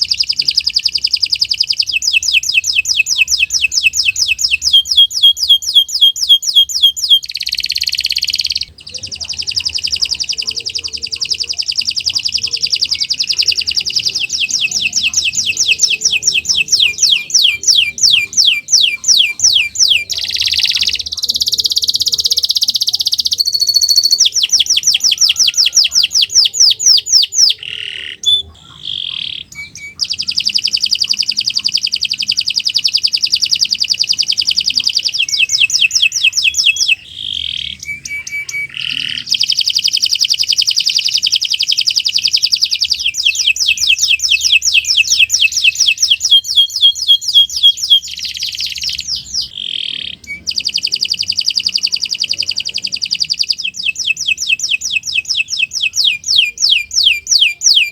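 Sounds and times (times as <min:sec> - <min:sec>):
canary singing trills: 0:00.0 - 0:57.9
short bird calls: 0:00.0 - 0:57.9.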